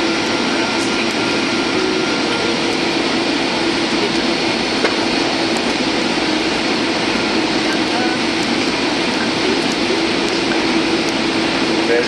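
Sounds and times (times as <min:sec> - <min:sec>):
airflow rushing: 0:00.0 - 0:12.0
jet engines: 0:00.0 - 0:12.0
low steady hum: 0:00.0 - 0:12.0.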